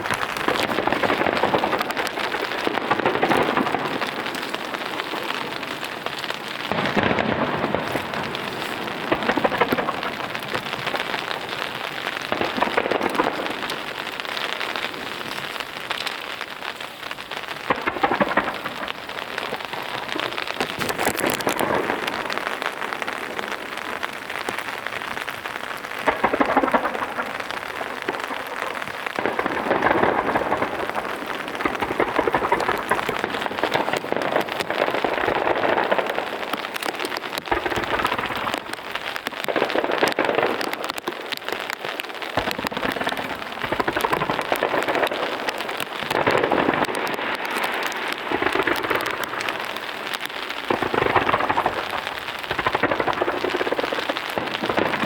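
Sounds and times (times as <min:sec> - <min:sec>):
fireworks booming and crackling: 0:00.0 - 0:55.0
steady rain: 0:00.0 - 0:55.0.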